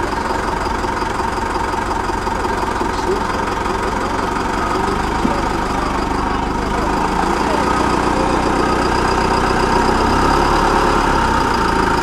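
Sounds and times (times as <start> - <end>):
coach engine idling with knocking: 0.0 - 12.0.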